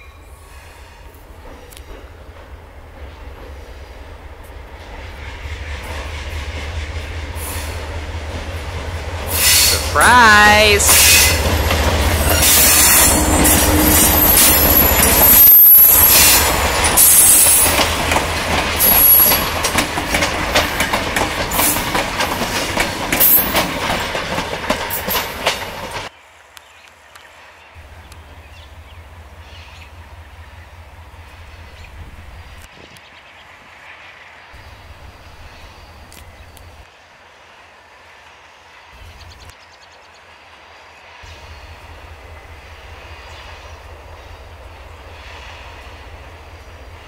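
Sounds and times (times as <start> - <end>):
diesel locomotive passing: 0.0 - 47.0.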